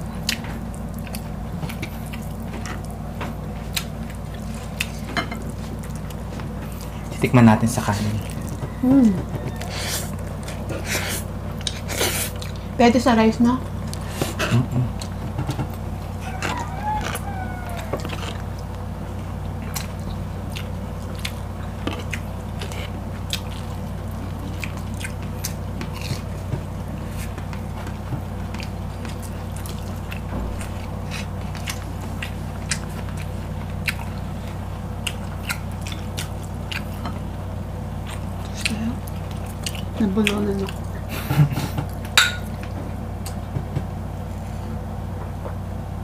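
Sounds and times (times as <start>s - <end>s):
crunchy biting and chewing: 0.0s - 8.9s, 13.8s - 43.4s
low hum: 0.0s - 46.0s.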